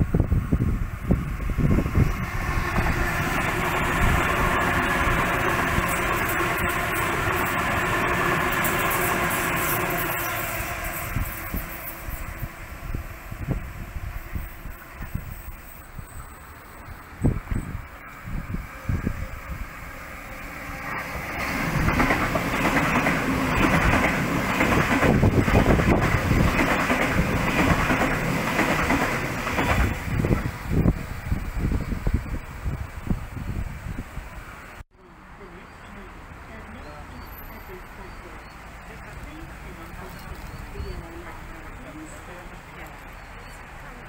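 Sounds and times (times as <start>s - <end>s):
train wheels on rail: 0.0s - 34.8s, 37.2s - 44.0s.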